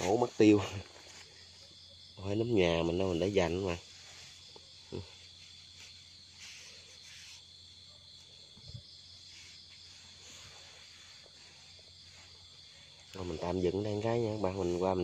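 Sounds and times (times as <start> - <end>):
night insects chirring: 0.0 - 15.0.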